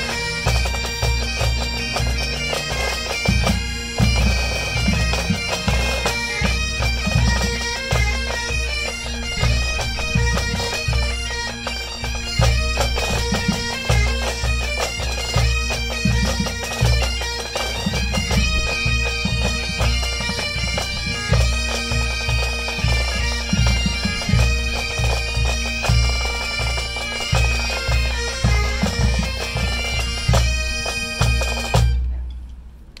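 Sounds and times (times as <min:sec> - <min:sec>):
bagpipes playing: 0:00.0 - 0:32.2.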